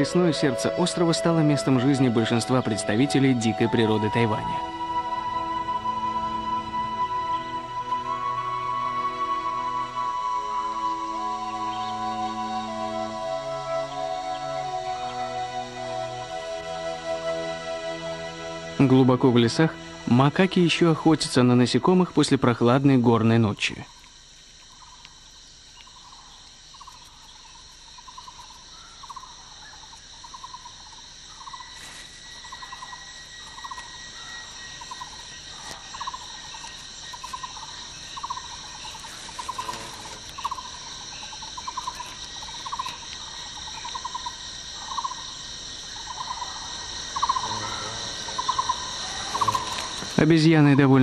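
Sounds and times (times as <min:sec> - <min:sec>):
insects buzzing: 0:00.0 - 0:51.0.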